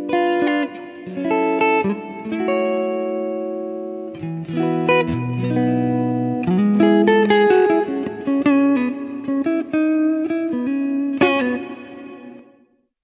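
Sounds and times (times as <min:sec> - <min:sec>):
electric guitar plucked notes: 0:00.0 - 0:12.7
guitar chord strum: 0:00.0 - 0:12.8.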